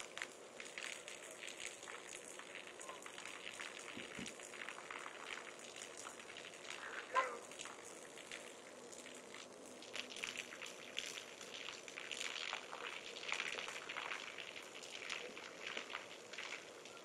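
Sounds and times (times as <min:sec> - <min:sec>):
tree stump burning crackling: 0:00.0 - 0:17.0.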